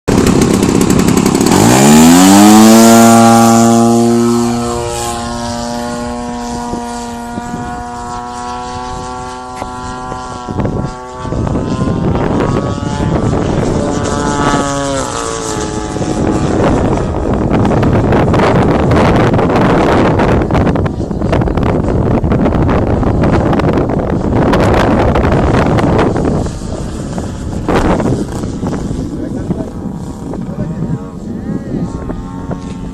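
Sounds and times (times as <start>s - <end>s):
propeller plane engine droning: 0.1s - 32.9s
wind noise on microphone: 0.1s - 32.9s.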